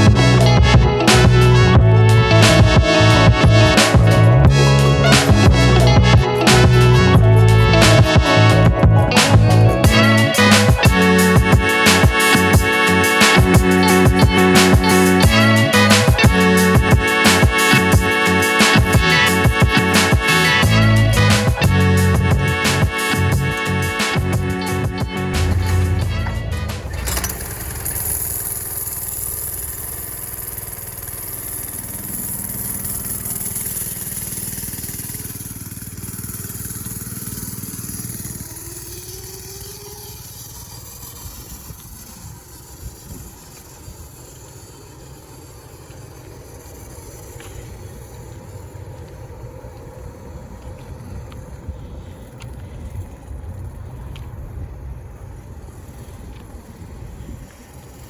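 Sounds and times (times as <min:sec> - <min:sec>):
small motorbike engine running: 0:00.0 - 0:58.0.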